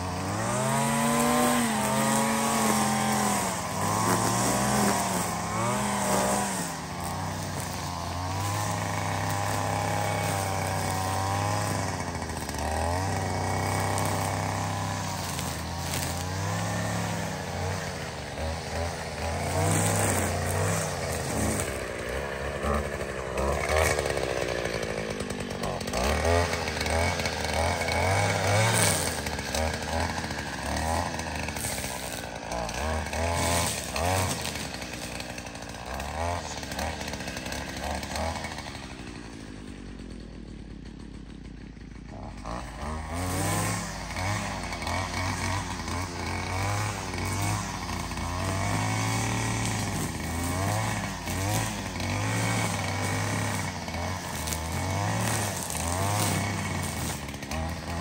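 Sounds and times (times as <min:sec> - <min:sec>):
small engine revving: 0:00.0 - 0:58.0.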